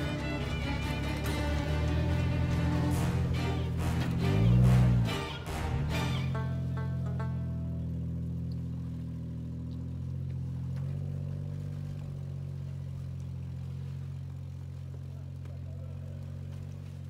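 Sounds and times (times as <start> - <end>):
engine running low drone: 0.0 - 17.0.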